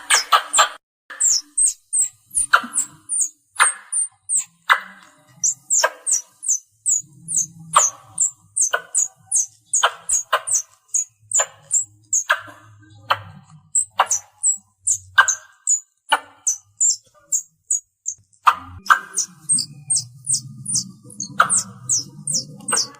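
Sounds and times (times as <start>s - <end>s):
squirrel harsh chip: 0.0s - 12.4s, 13.7s - 22.9s
squirrel chirping: 0.0s - 22.9s.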